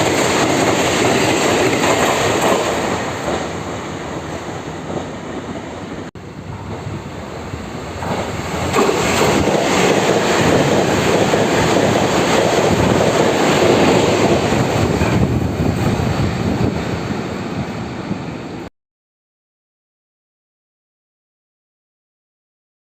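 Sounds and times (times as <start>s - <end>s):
express train passing at speed: 0.0s - 18.7s.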